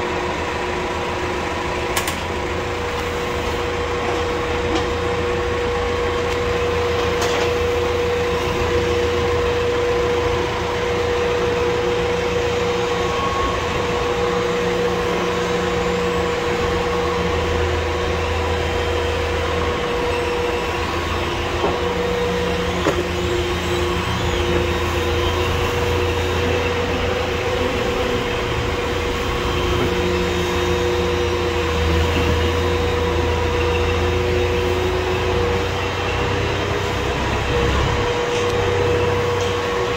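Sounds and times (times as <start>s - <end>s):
feed mixer augers churning hay: 0.1s - 39.9s.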